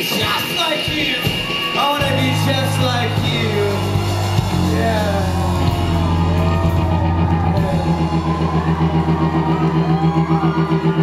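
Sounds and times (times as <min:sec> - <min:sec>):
rock band playing live: 0:00.0 - 0:11.0.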